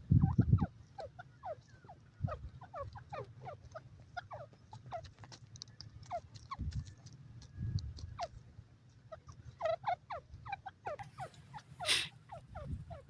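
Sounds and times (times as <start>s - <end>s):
bird chirping: 0.1s - 8.4s, 9.1s - 13.0s.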